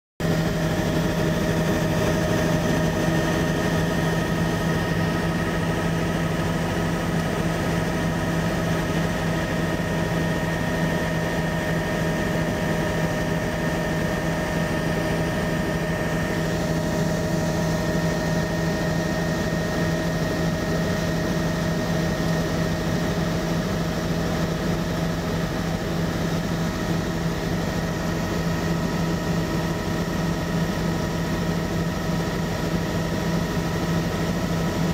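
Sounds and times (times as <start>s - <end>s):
aircraft engine drone: 0.2s - 34.9s.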